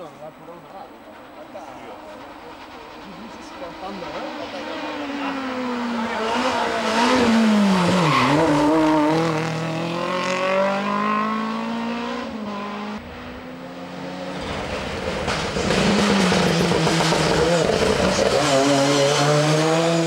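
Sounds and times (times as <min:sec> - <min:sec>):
rally car engine revving: 0:02.2 - 0:20.0.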